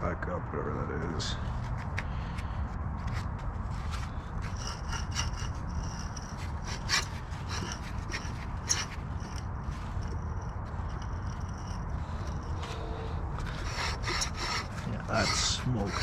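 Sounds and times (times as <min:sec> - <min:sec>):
steady low rumble: 0:00.0 - 0:16.0
scraping strokes: 0:01.4 - 0:16.0.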